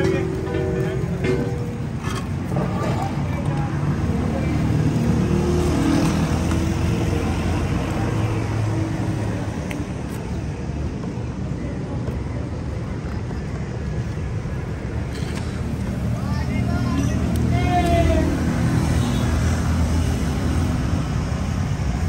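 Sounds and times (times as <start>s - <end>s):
motor traffic rumble: 0.0s - 22.0s.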